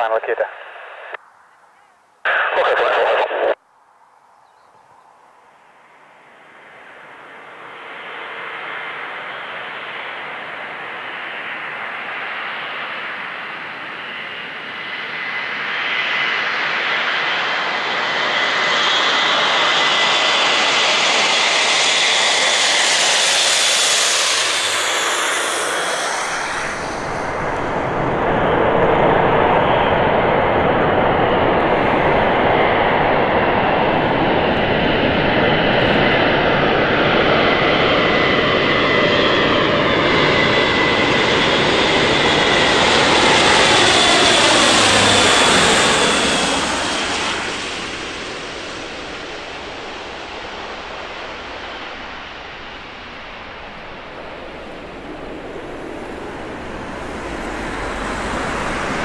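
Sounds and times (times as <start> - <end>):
propeller aircraft droning: 5.8 - 59.0.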